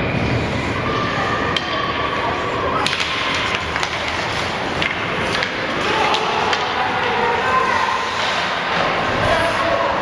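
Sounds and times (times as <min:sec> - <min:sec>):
ice rink noise: 0:00.0 - 0:10.0
hockey sticks and puck clacking: 0:01.4 - 0:10.0.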